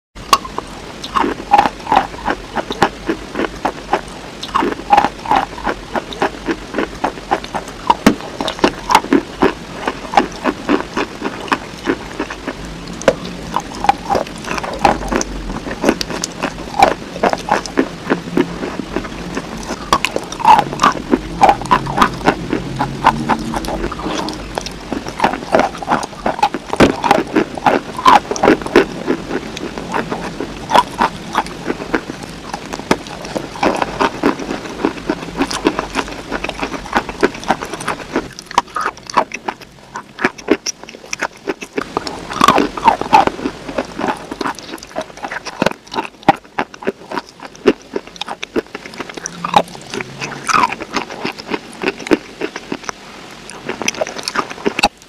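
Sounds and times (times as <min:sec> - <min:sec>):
lips and tongue smacking: 0:00.3 - 0:55.0.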